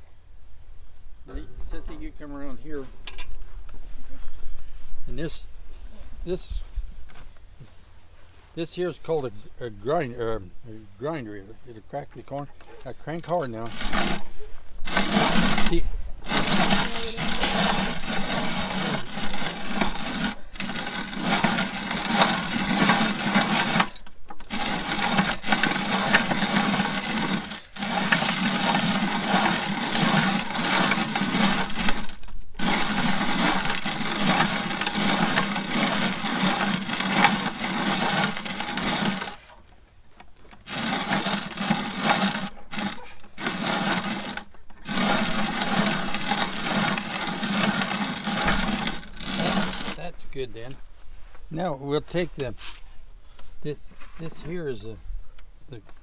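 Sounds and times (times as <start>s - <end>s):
hand-cranked corn grinder grinding: 8.5s - 52.9s, 53.7s - 54.9s.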